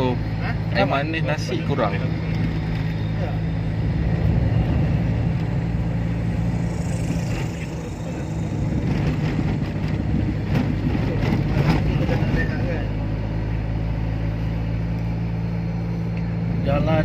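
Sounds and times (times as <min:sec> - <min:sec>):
car engine hum and road noise: 0:00.0 - 0:17.0.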